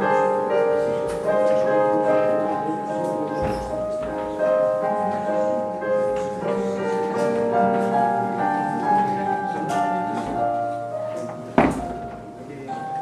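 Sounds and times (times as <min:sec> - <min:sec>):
slow electronic keyboard music: 0:00.0 - 0:13.0.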